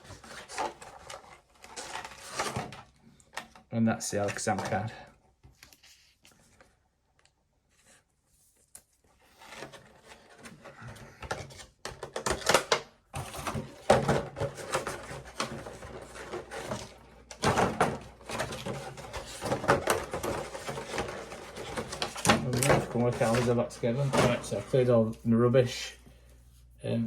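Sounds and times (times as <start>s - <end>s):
cardboard and plastic rustling: 0.0s - 6.9s, 7.7s - 25.4s.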